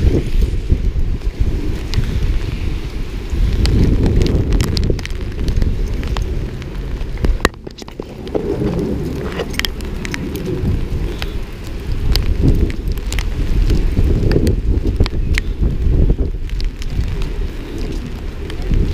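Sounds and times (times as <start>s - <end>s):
heavy rain: 0.0s - 18.9s
wind buffeting microphone: 0.0s - 18.9s.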